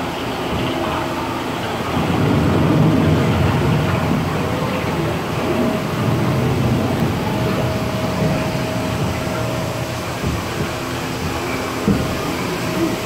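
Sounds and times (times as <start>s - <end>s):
faint steady hum: 0.0s - 13.0s
rumbling boat ride: 0.0s - 13.0s.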